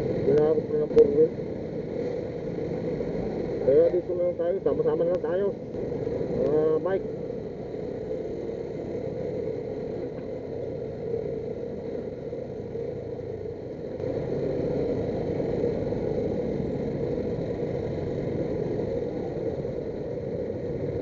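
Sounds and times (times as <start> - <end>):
drone of traffic: 0.0 - 21.0.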